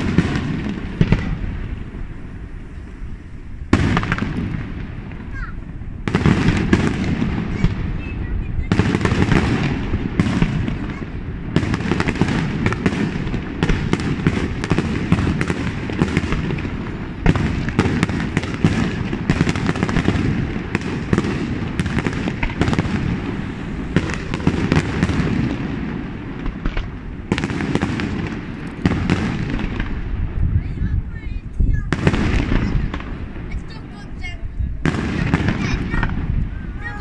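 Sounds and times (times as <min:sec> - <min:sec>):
firework shells bursting: 0:00.0 - 0:30.6.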